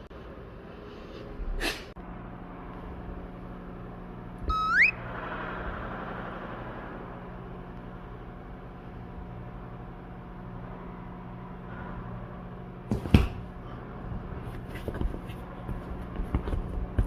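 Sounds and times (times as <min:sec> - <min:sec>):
washing machine spinning: 0:02.0 - 0:17.0.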